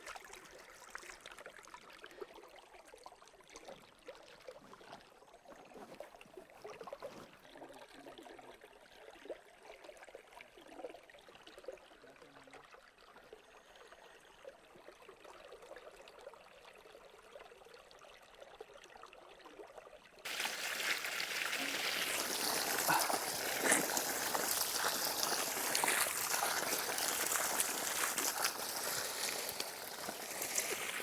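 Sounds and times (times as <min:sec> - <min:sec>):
water trickling and bubbling: 0:00.0 - 0:31.0.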